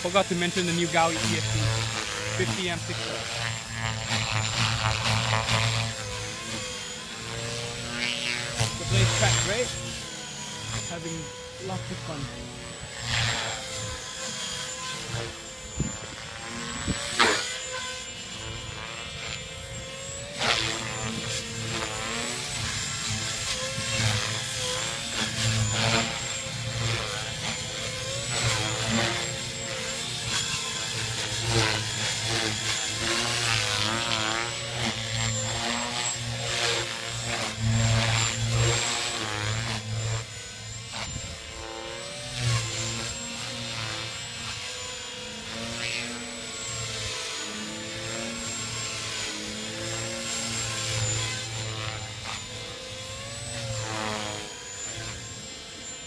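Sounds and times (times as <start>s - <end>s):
electric motor whining: 0.0s - 56.0s
rotor blades chopping: 0.0s - 56.0s.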